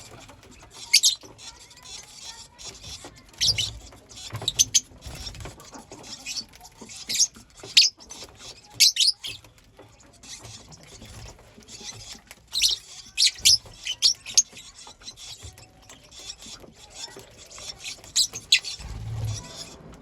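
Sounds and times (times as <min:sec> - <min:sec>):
lovebirds chirping: 0:00.0 - 0:19.9.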